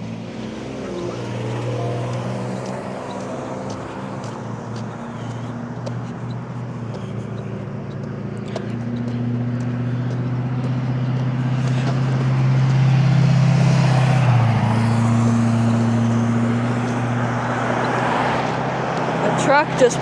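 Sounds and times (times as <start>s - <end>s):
fire truck engine passing: 0.0s - 20.0s
tyre noise on road: 0.0s - 20.0s.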